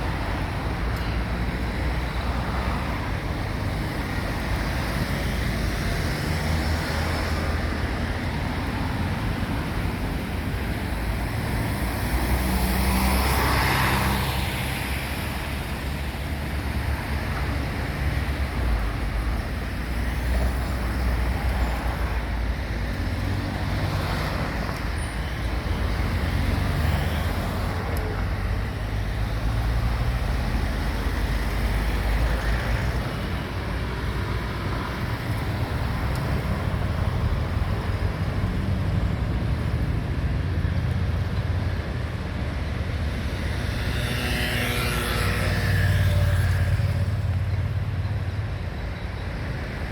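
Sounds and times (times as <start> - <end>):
city traffic rumble: 0.0 - 49.9.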